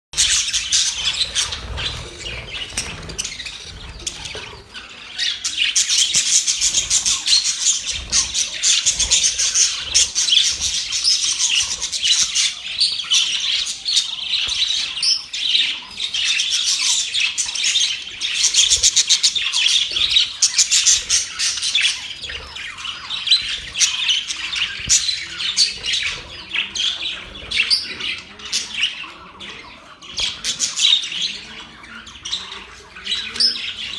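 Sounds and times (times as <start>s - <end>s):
budgerigars chattering: 0.2s - 33.9s.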